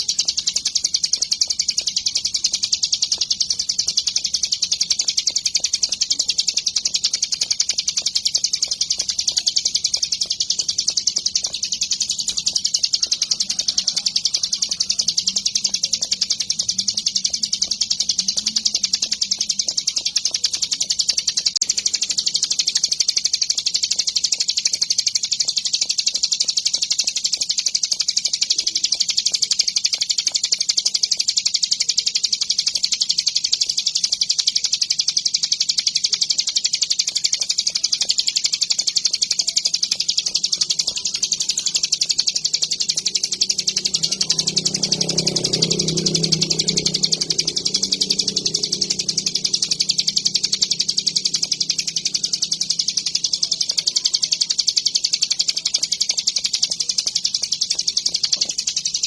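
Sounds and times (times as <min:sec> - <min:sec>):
bird singing rapid high trill: 0:00.0 - 0:59.0.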